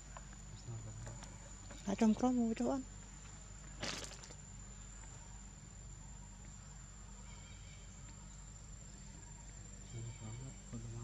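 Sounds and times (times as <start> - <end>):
faint low hum: 0.0 - 11.0
insects droning: 0.0 - 11.0.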